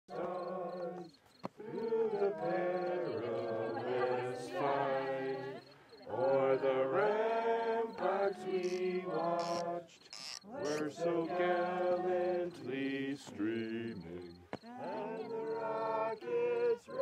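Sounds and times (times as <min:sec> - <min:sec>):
voices chanting long notes: 0:00.1 - 0:17.0.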